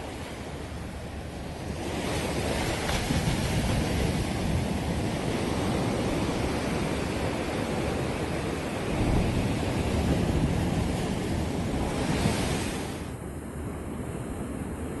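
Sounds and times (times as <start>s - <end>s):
surf washing onto beach: 0.0s - 13.2s
wind on microphone: 0.0s - 15.0s.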